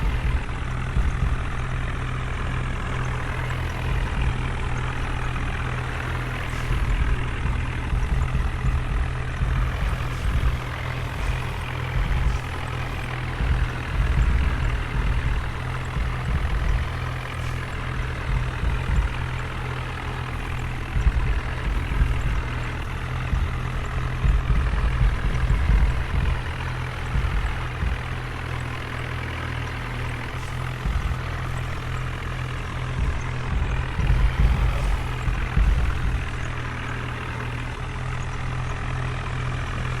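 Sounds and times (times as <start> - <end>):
heavy vehicle engine rumbling: 0.0 - 40.0.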